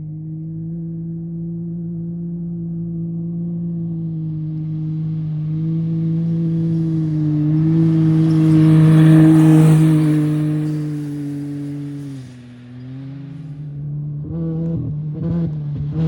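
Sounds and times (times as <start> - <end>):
off-road vehicle engine: 0.0 - 16.0.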